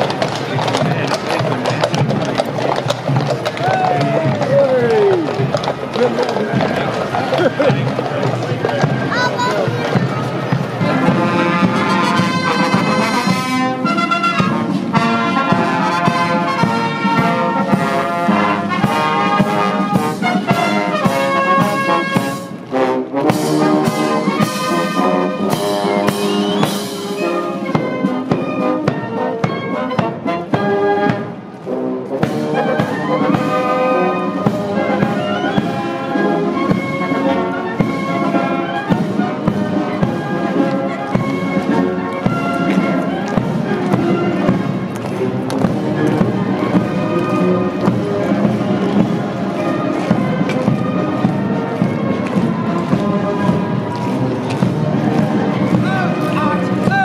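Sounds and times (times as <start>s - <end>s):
marching band playing brass: 0.0s - 57.0s.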